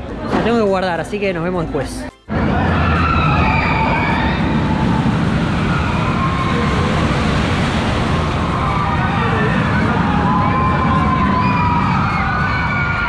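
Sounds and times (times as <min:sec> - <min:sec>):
riders screaming: 0:02.3 - 0:13.0
roller coaster rumbling on track: 0:02.3 - 0:13.0.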